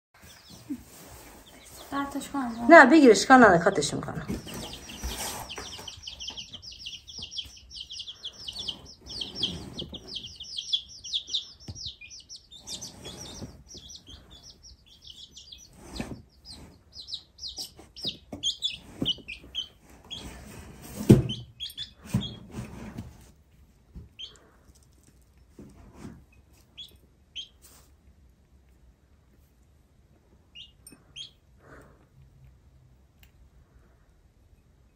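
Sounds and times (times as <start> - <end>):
baby chicks peeping: 0.2 - 34.9.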